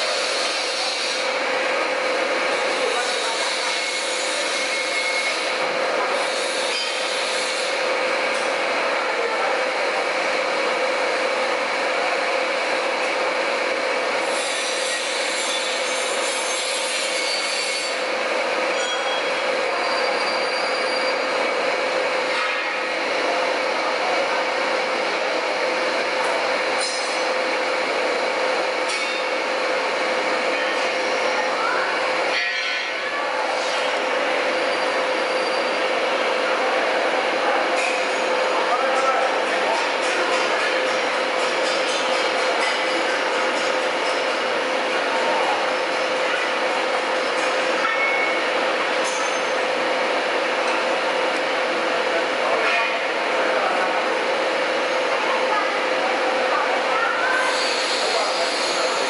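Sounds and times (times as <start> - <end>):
machine grinding with high whine: 0.0 - 56.6, 57.3 - 59.0.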